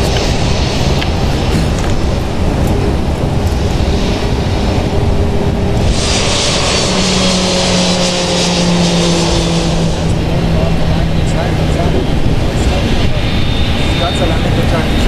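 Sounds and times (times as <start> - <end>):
jet engines rumbling: 0.0 - 15.0
jet hiss with whine: 0.0 - 15.0.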